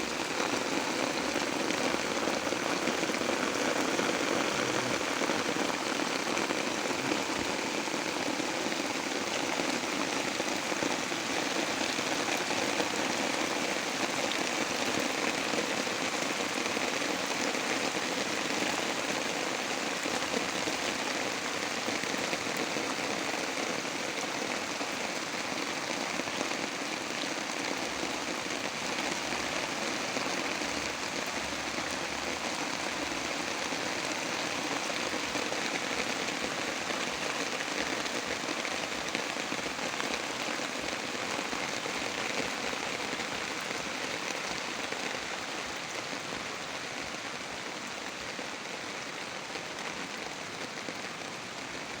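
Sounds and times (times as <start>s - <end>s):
heavy rain: 0.0s - 52.0s.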